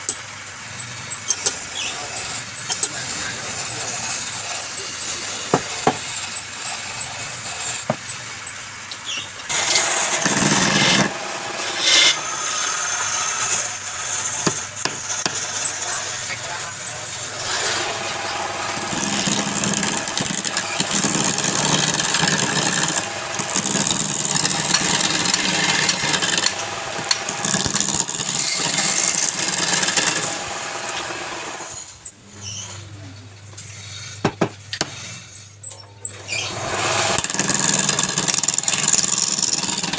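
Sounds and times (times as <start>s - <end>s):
lathe humming: 0.8s - 31.9s, 36.3s - 39.9s
turning tool scraping wood: 1.0s - 39.9s.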